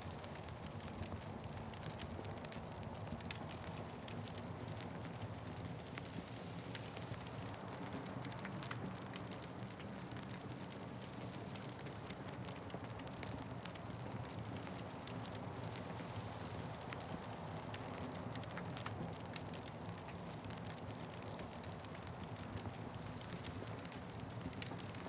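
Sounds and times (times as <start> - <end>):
wood fire crackling and popping: 0.1 - 25.0.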